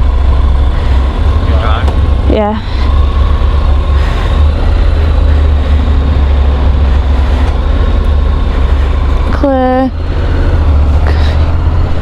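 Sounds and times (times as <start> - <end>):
motorcycle engine rumble: 0.0 - 12.0
wind noise: 0.0 - 12.0.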